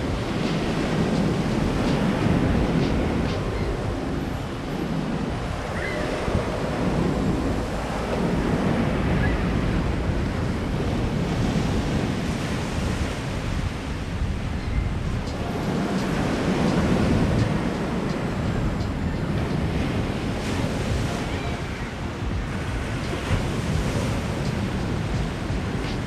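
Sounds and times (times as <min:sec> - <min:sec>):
waves breaking on shore: 0:00.0 - 0:26.0
wind rumbling on microphone: 0:00.0 - 0:26.0.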